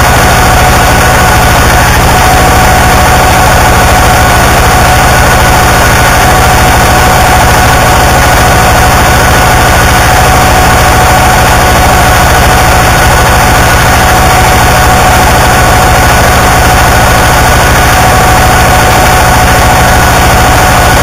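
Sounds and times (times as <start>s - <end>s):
harsh distorted noise music: 0.0s - 21.0s.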